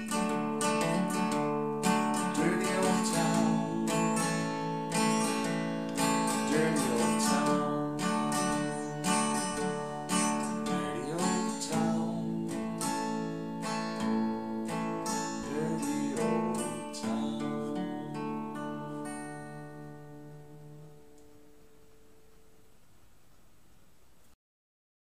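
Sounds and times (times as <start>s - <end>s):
acoustic guitar strummed: 0.0s - 22.6s.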